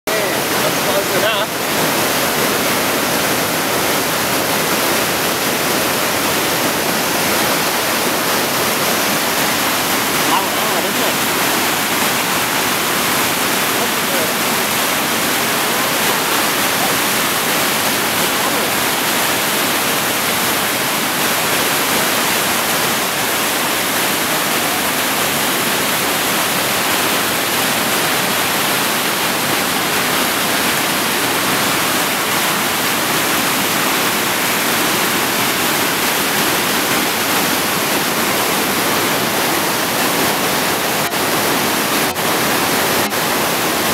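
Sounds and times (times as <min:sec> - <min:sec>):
river rushing over rocks: 0:00.1 - 0:43.9.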